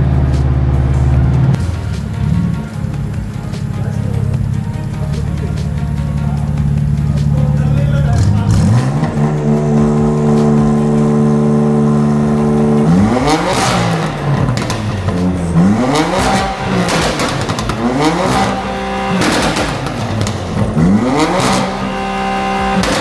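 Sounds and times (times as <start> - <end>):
car engine revving: 0.0 - 23.0
sharp exhaust cracks: 0.0 - 23.0.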